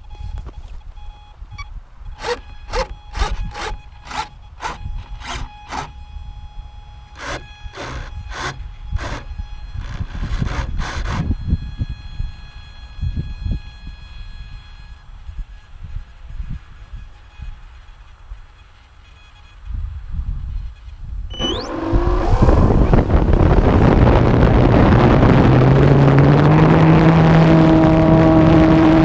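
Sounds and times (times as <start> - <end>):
faint steady whine: 0.0 - 29.0
wind buffeting microphone: 1.4 - 17.8, 19.6 - 29.0.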